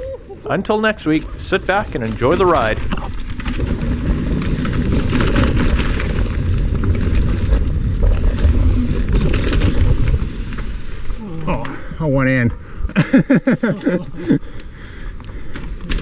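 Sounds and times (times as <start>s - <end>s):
bike tyres rolling over dirt: 0.5s - 16.0s
bike rattles and knocks: 0.6s - 16.0s.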